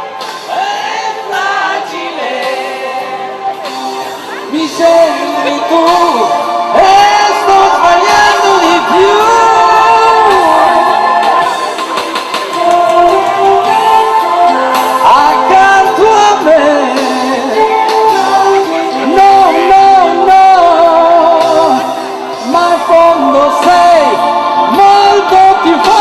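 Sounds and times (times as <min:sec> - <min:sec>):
pop song with singing: 0:00.0 - 0:26.0.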